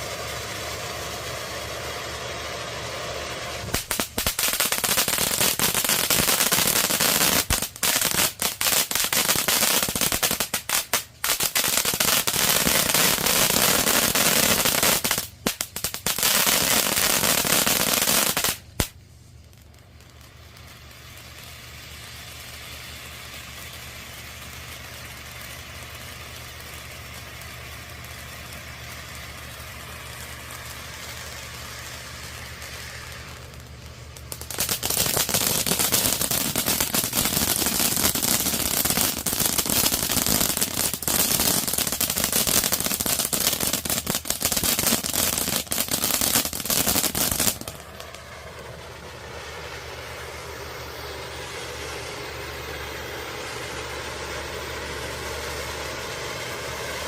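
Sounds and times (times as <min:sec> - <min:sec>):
firework crackling: 0:00.0 - 0:57.0
firework fountain hissing: 0:00.0 - 0:57.0.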